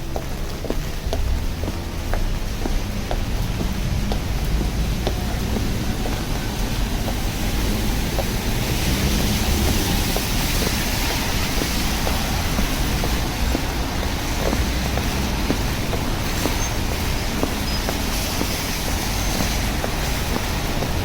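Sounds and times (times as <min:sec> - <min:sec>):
traffic rumble: 0:00.0 - 0:21.0
tyres hissing on wet road: 0:00.0 - 0:21.0.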